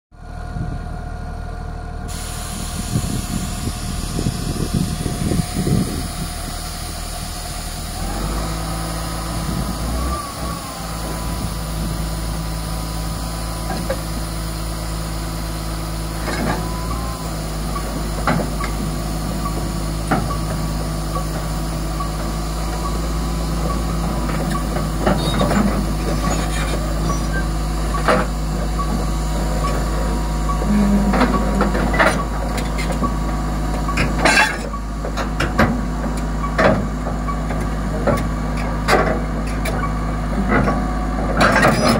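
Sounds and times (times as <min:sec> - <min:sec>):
diesel engine droning: 0:00.1 - 0:41.9.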